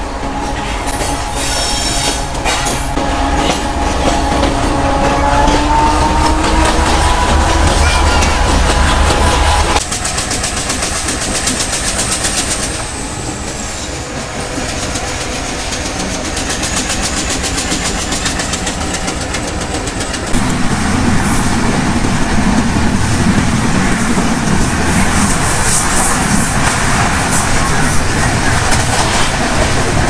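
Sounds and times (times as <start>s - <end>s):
passenger train rumbling on track: 0.0s - 30.0s.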